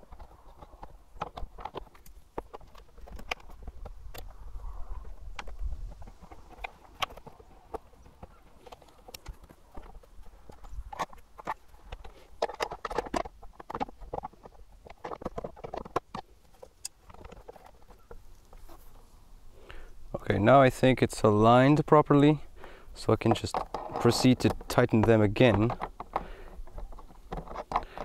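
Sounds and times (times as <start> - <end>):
hand tools clicking and knocking: 0.0 - 18.8, 22.6 - 28.0.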